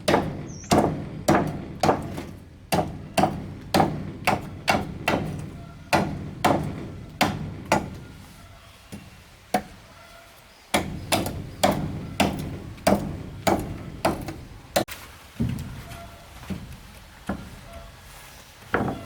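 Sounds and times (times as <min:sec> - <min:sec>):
hammer blows on wooden planks: 0:00.0 - 0:10.0, 0:10.7 - 0:18.0, 0:18.6 - 0:19.0.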